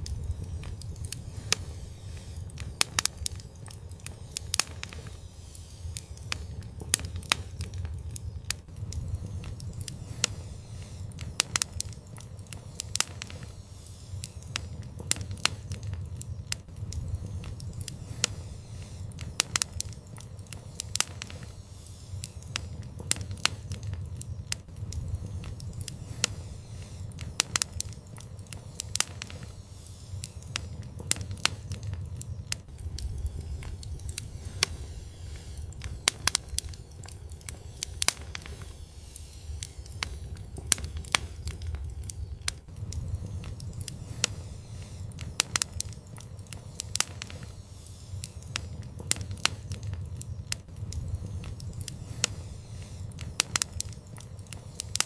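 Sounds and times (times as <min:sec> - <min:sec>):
fire pops and snaps: 0:00.0 - 0:55.0
low rumble of burning: 0:00.0 - 0:55.0.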